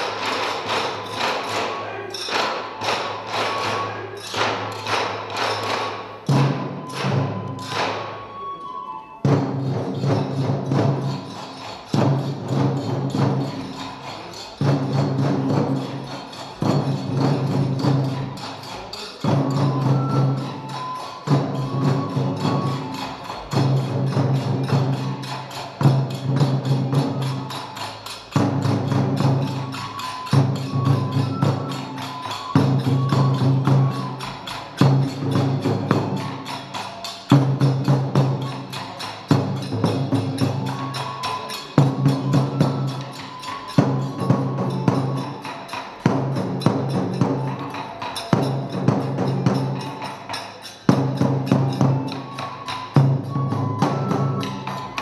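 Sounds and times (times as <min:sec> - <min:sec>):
drum beating: 0:00.0 - 0:55.0
high bamboo flute: 0:00.0 - 0:55.0
jingling cymbals: 0:00.0 - 0:55.0.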